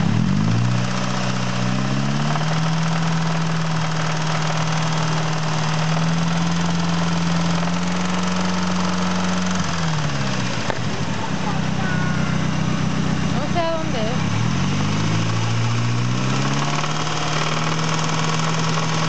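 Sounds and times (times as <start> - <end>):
engine running with a knock: 0.0 - 12.6, 14.8 - 19.0.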